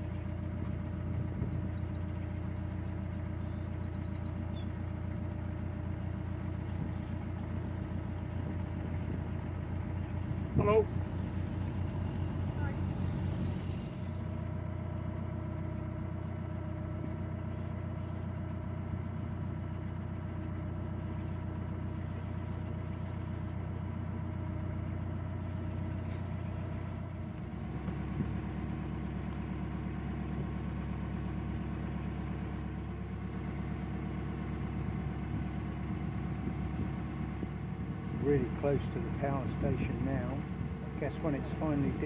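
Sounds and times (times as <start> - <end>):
diesel boat engine running: 0.0 - 42.0.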